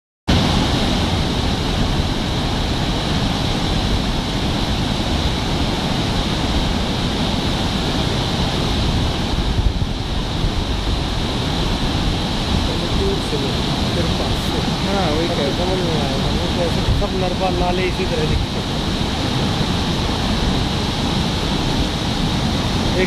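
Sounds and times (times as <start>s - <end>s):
waterfall rushing: 0.3s - 23.0s.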